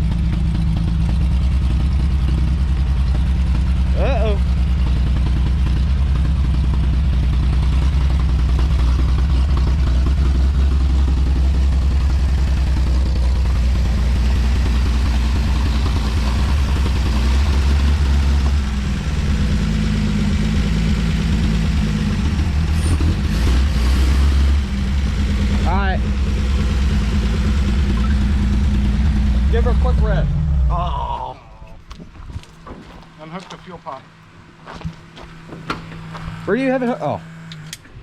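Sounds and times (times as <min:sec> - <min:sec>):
engine running rough and missing: 0:00.0 - 0:38.0.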